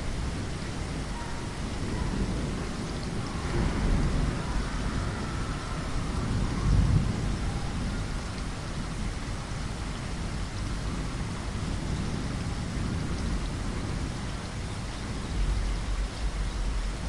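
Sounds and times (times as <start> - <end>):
rain on a window: 0.0 - 17.0
thunder rumble: 0.0 - 17.0.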